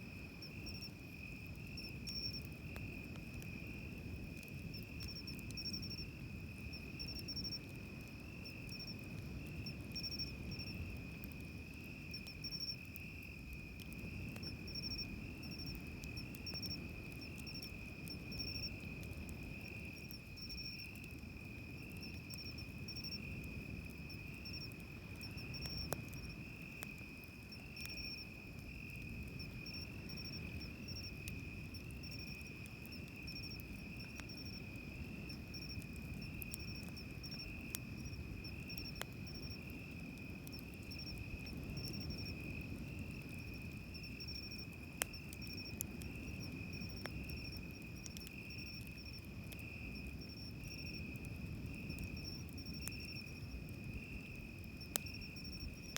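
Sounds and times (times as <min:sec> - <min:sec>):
crickets chirping: 0:00.0 - 0:55.9
campfire crackling: 0:00.1 - 0:55.9.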